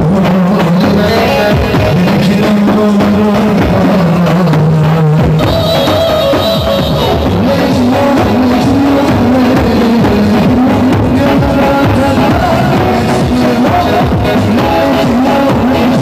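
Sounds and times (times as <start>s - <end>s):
loud dance music: 0.0s - 16.0s
steady drum beat: 0.0s - 16.0s.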